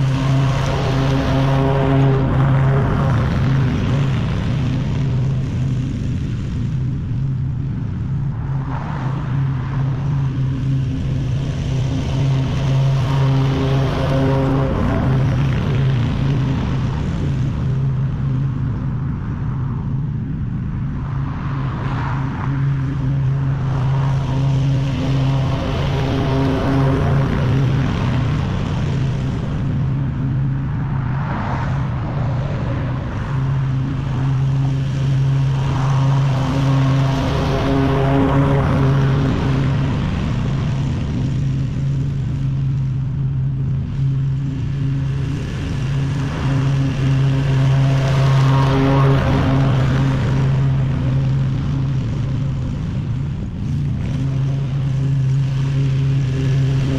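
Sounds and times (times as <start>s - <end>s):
lawn mower engine droning: 0.0s - 7.2s, 9.8s - 18.5s, 22.6s - 56.9s.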